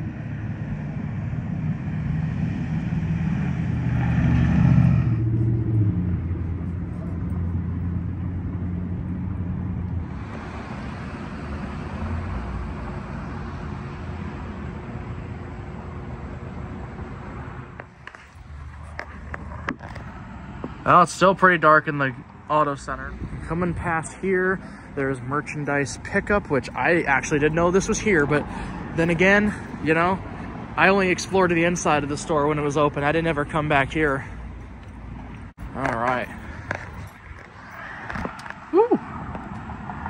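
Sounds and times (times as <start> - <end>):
vehicle passing by: 0.0 - 22.0, 22.6 - 40.0
distant traffic: 0.0 - 40.0.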